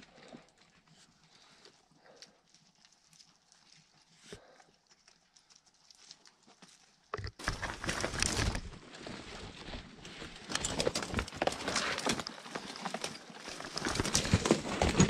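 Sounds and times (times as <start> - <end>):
brush scraping and twigs crackling: 0.0 - 15.0.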